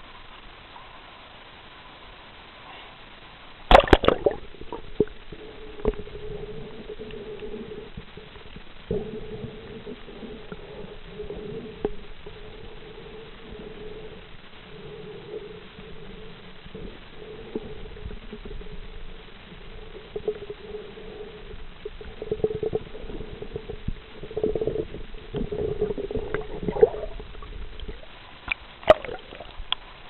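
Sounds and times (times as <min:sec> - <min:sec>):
underwater low hum: 0:00.0 - 0:30.0
crackling and knocking underwater: 0:03.6 - 0:30.0.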